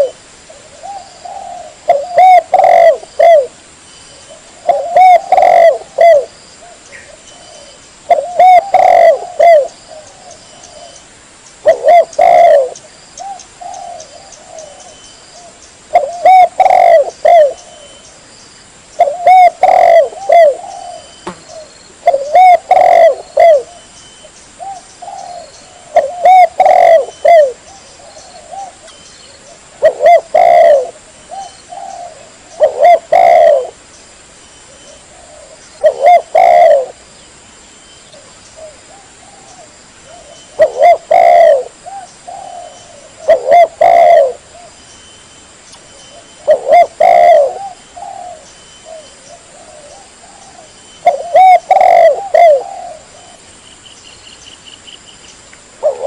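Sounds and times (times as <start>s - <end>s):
dove cooing: 0.0s - 11.0s, 11.6s - 18.0s, 19.0s - 23.9s, 24.6s - 33.8s, 34.7s - 37.0s, 38.1s - 44.8s, 45.9s - 53.4s, 55.8s - 56.0s.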